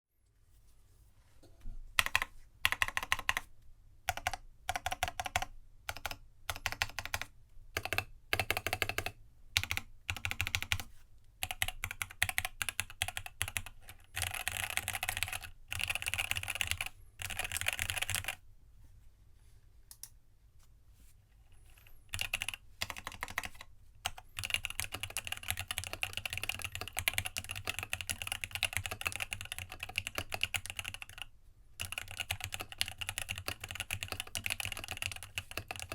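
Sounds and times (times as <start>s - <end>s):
mechanical keyboard typing: 2.0s - 3.5s, 4.1s - 18.4s, 22.1s - 35.9s.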